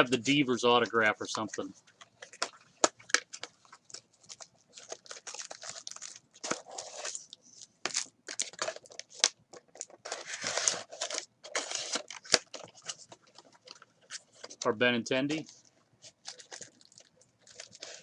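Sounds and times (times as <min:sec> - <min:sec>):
packaging crinkling and tearing: 0:02.1 - 0:14.7, 0:16.1 - 0:18.0.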